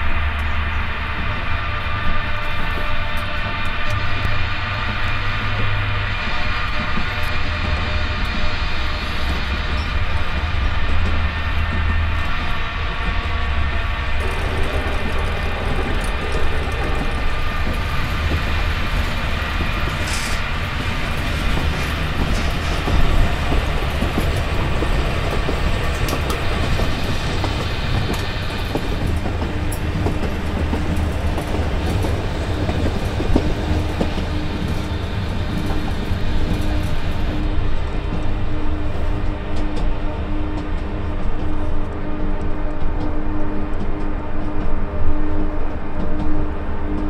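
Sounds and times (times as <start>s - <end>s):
steady low hum: 0.0s - 47.0s
train rumbling on rails: 0.0s - 47.0s.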